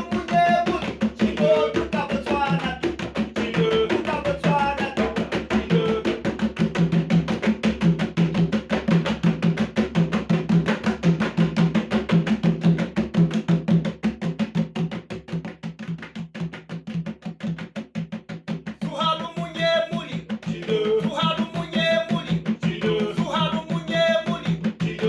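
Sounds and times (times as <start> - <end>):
fast drum and percussion beat: 0.0 - 25.0.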